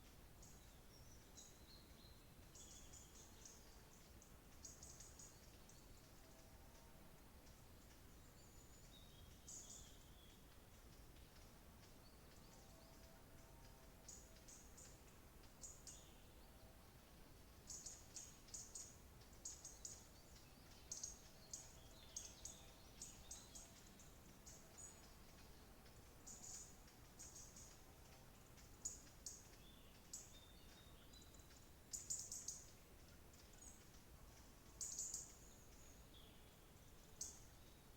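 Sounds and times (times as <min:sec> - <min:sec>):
low background hiss: 0:00.0 - 0:37.9.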